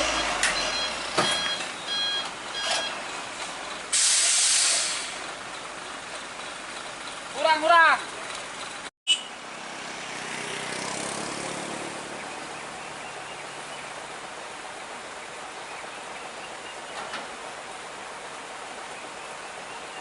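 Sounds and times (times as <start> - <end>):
road vehicle passing: 0.0 - 4.0, 5.0 - 20.0
steady road noise: 0.0 - 20.0.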